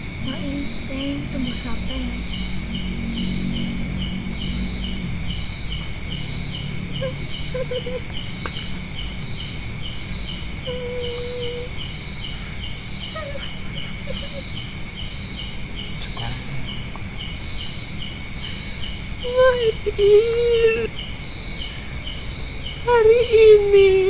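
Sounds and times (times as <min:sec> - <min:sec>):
low rumble: 0:00.0 - 0:11.1, 0:11.7 - 0:20.0
insects trilling: 0:00.0 - 0:24.0
repeating insect chirp: 0:00.0 - 0:24.0.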